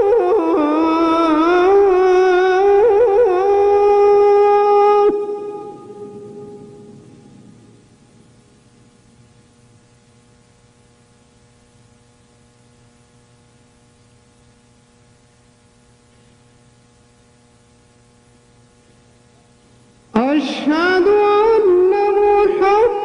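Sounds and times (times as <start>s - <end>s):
faint mains hum: 0.0s - 23.0s
microphone hiss: 0.0s - 23.0s.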